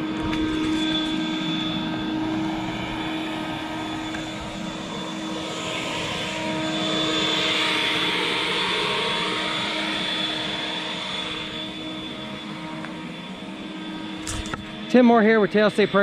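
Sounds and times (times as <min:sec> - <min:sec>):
leaf blower running: 0:00.0 - 0:16.0.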